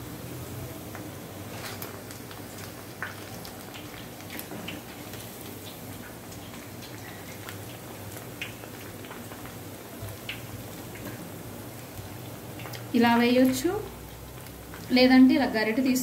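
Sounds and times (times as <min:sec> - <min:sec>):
dough sizzling in hot oil: 0:00.0 - 0:16.0
small pops and crackles: 0:00.9 - 0:15.0.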